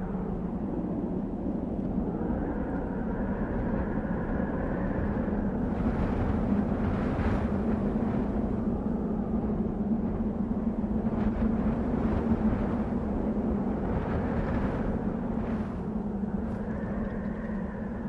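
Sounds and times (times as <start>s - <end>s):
wind blowing with deep rumble: 0.0s - 18.0s.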